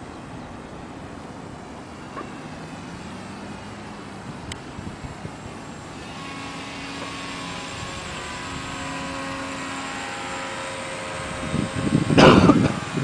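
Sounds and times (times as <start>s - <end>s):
model plane propeller droning: 0.0s - 13.0s
wind rumbling on microphone: 0.0s - 13.0s.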